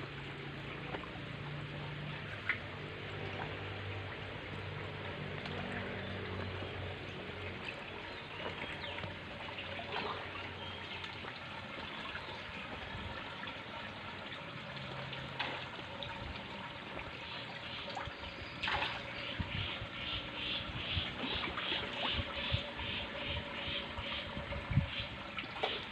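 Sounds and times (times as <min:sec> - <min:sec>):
small water splashes: 0:00.0 - 0:25.9.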